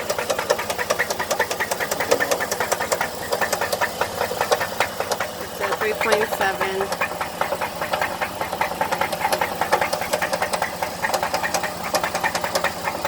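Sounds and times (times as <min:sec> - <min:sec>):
engine running with rapid knock: 0:00.0 - 0:13.0.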